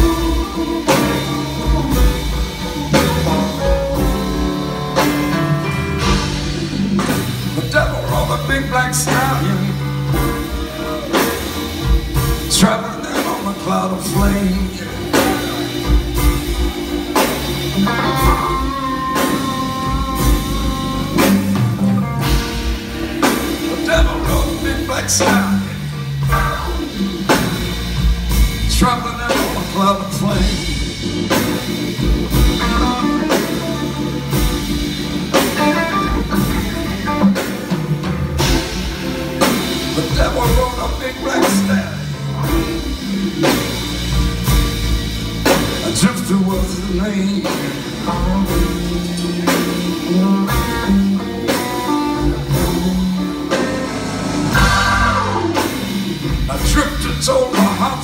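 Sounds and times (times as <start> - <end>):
drum kit and percussion beat: 0.0 - 58.0
electric guitar: 0.0 - 58.0.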